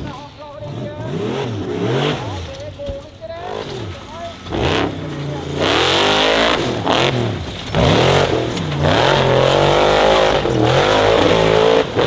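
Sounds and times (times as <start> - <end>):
buggy engine revving hard: 0.0 - 12.0.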